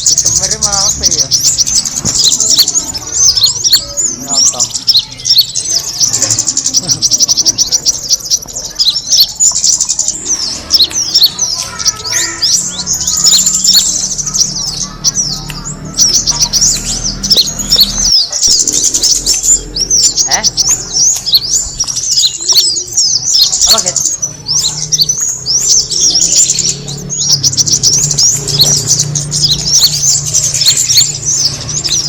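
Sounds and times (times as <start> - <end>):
songbird chirping and trilling: 0.0 - 32.0.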